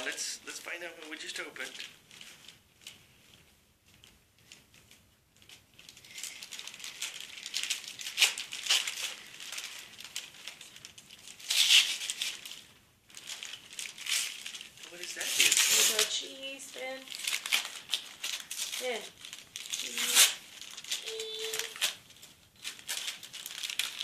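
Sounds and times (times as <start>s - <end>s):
wrapping paper tearing and crumpling: 0.0s - 3.2s, 4.4s - 24.0s.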